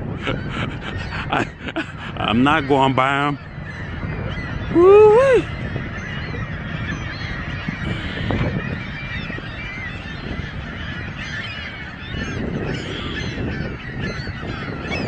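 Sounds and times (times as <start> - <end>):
flock of birds calling: 0.0 - 15.0.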